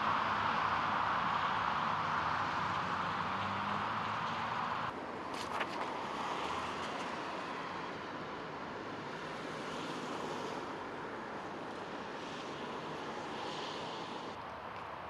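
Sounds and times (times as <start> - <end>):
vehicles passing: 0.0 - 15.0.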